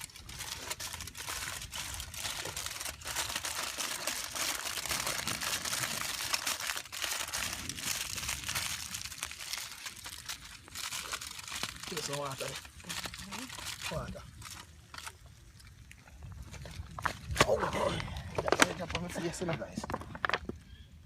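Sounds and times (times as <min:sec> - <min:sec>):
aluminium foil crinkling: 0:00.0 - 0:17.4.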